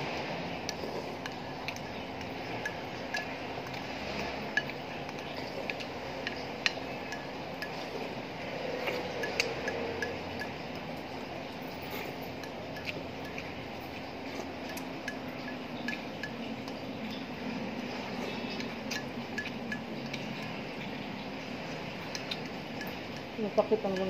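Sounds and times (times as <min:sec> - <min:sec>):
faint regular ticking: 0:00.6 - 0:24.0.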